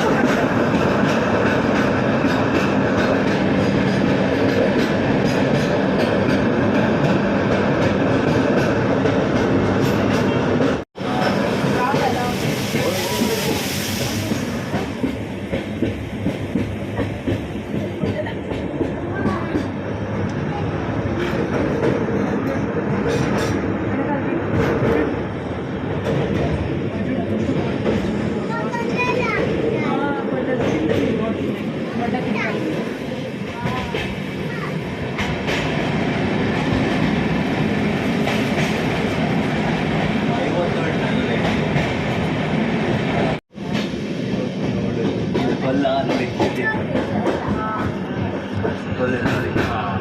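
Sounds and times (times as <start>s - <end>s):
train rumbling: 0.0s - 50.0s.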